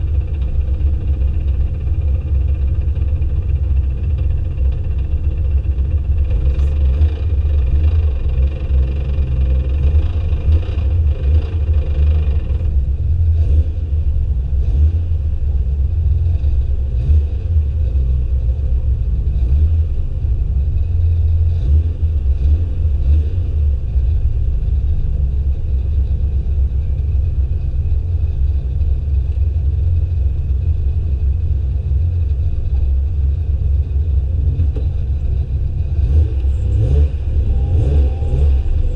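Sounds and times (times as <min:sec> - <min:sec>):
car engines rumbling: 0:00.0 - 0:38.9.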